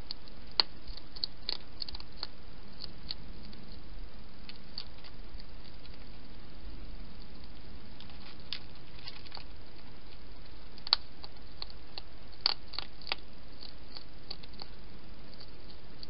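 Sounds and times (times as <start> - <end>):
hedgehog feeding crunches: 0.0 - 6.4, 7.1 - 16.0
steady hiss: 0.0 - 16.0.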